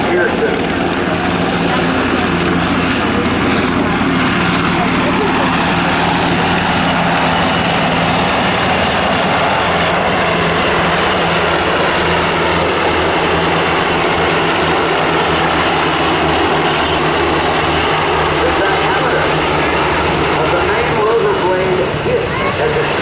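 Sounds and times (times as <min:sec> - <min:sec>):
helicopter rotor and turbine drone: 0:00.0 - 0:23.0.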